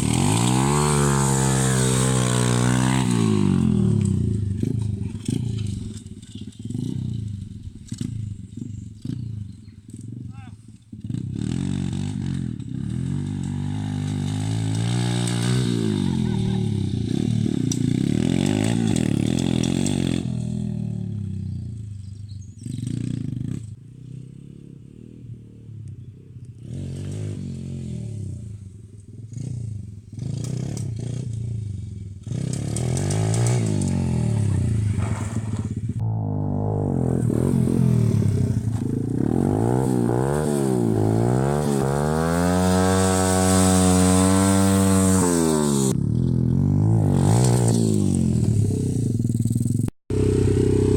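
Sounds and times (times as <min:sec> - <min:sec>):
pit bike engine revving: 0:00.0 - 0:10.2, 0:10.9 - 0:50.9.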